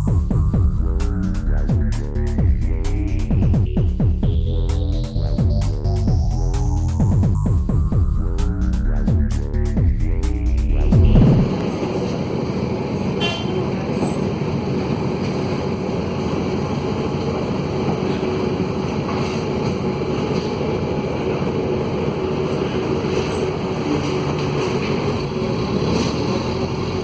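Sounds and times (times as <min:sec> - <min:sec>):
broken exhaust noise: 0:00.0 - 0:27.0
diesel bus engine running: 0:00.0 - 0:27.0.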